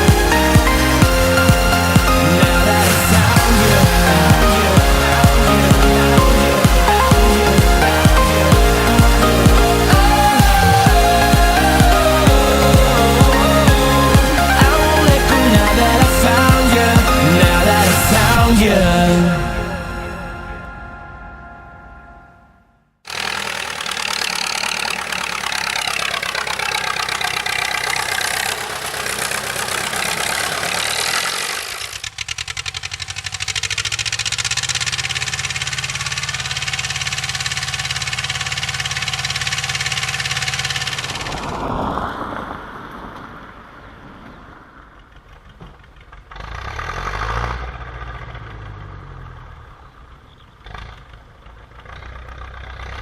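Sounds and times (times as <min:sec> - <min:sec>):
tractor diesel engine running: 0:00.0 - 0:22.3, 0:23.1 - 0:53.0.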